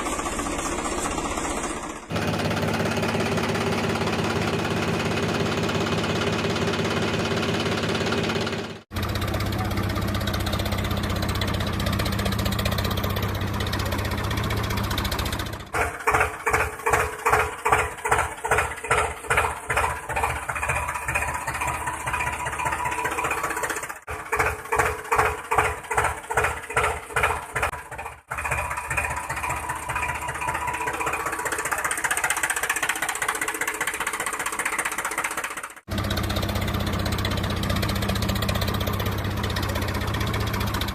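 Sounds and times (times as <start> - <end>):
engine chugging: 0.0 - 40.9.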